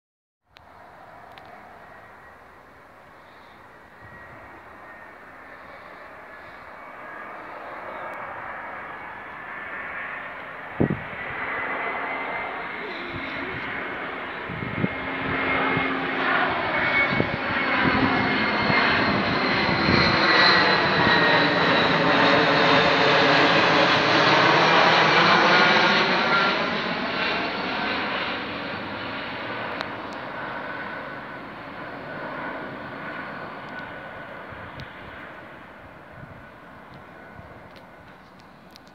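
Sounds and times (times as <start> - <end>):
jet airliner passing overhead: 0.5 - 38.9.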